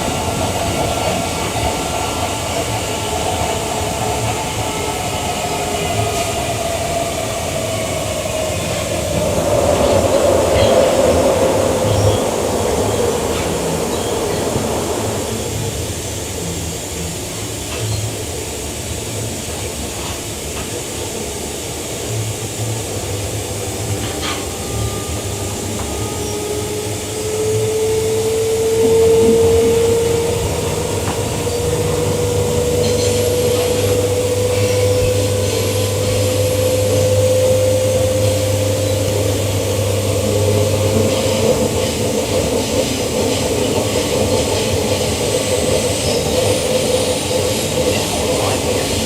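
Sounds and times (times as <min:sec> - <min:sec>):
train rumbling: 0:00.0 - 0:49.0.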